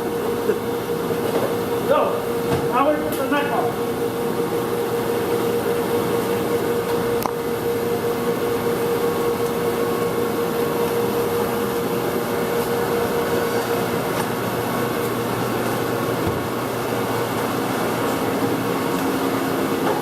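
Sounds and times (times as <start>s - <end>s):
workshop machinery hum: 0.0s - 20.0s.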